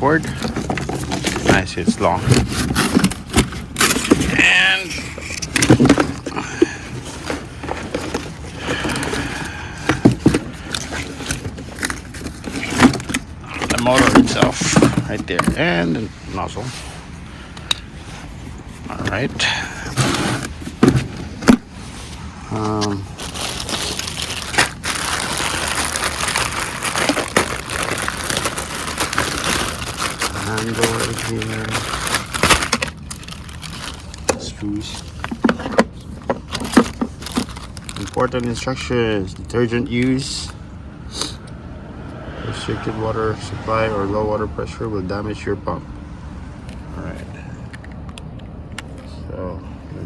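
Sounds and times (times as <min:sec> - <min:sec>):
packaging rustling and scraping: 0:00.0 - 0:40.6.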